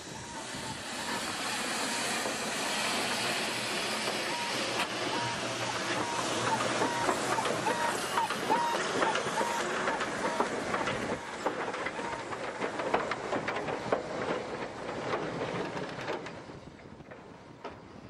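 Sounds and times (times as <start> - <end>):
train wheels clicking over rails: 0.0 - 18.0.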